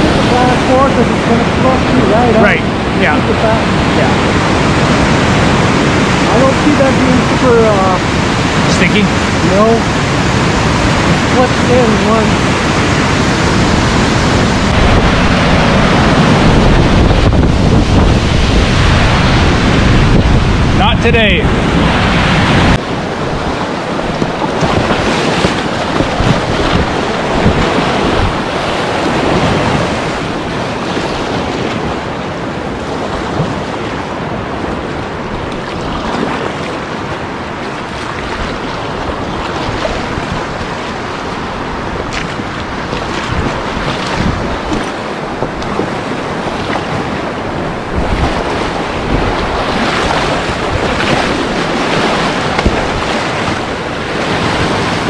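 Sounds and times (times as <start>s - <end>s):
river rapids rushing: 0.0s - 55.0s
wind buffeting microphone: 0.0s - 55.0s.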